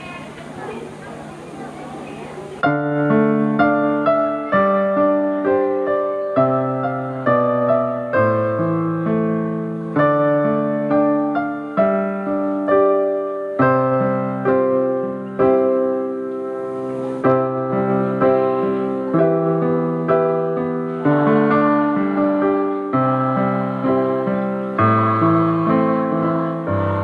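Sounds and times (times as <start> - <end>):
electric keyboard chords: 0.0 - 27.0.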